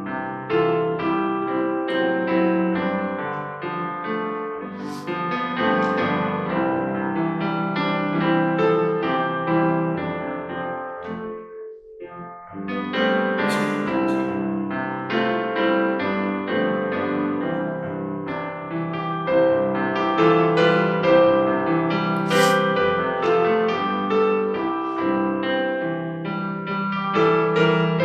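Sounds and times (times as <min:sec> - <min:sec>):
slow gentle piano piece: 0:00.0 - 0:28.0.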